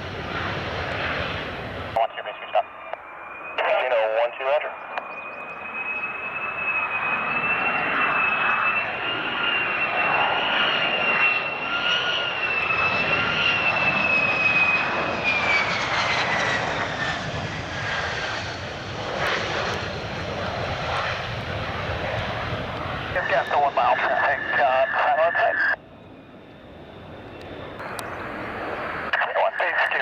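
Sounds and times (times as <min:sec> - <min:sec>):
jet flying past: 0:00.0 - 0:30.0.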